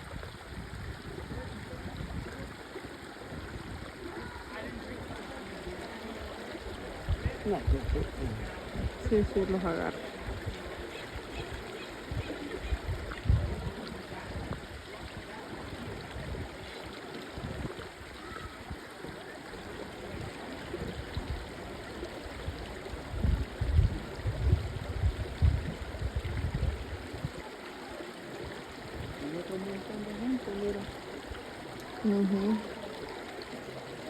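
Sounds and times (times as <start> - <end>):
water flowing: 0.0 - 34.0.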